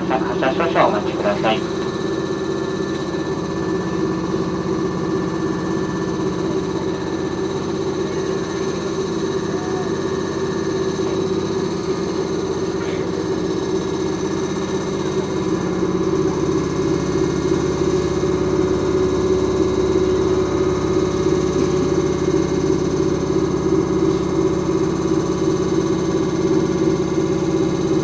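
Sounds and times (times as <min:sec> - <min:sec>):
train steady hum: 0:00.0 - 0:28.0.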